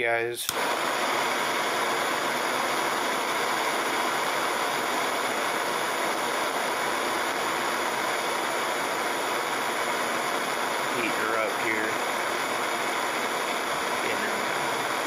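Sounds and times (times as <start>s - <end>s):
torch flame hissing: 0.4s - 15.0s.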